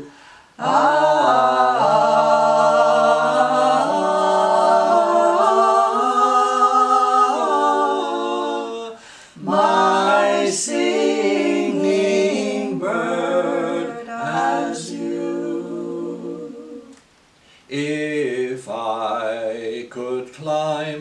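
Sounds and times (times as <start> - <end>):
voices singing in harmony: 0.0 - 21.0.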